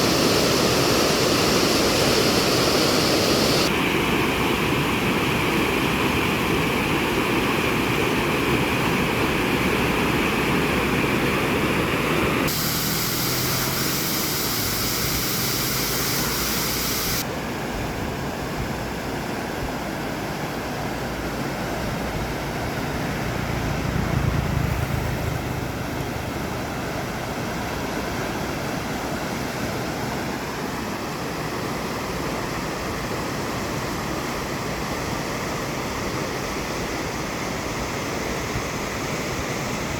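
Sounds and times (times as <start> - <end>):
fast-flowing water rushing: 0.0 - 23.2, 25.8 - 39.9.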